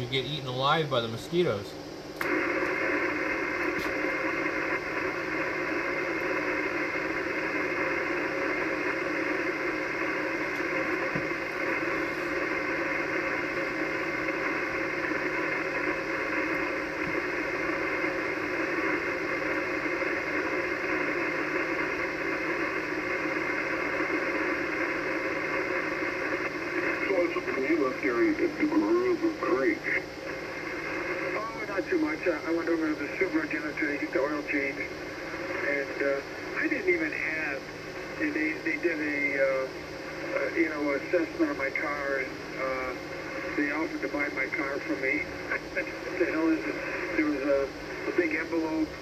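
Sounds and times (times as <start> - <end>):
faint steady tones: 0.0 - 49.0
radio static hiss: 0.0 - 49.0.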